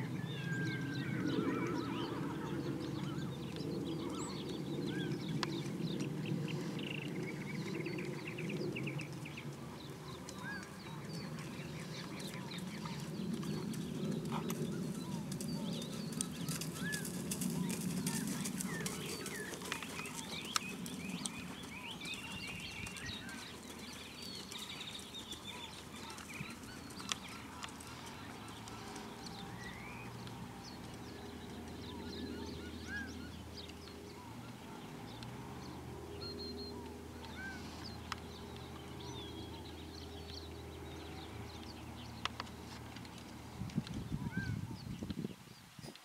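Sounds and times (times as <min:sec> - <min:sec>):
birds chirping and calling: 0:00.0 - 0:46.0.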